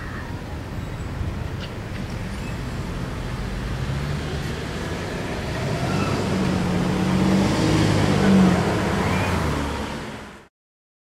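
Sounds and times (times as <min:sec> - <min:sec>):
cars driving over crossing: 0:00.3 - 0:10.5.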